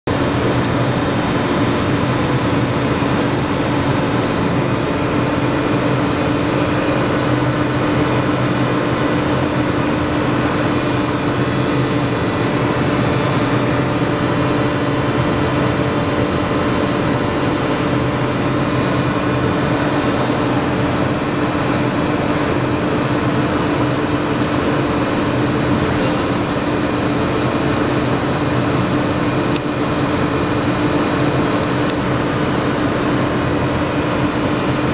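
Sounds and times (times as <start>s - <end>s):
milling machine hum: 0.1s - 34.9s.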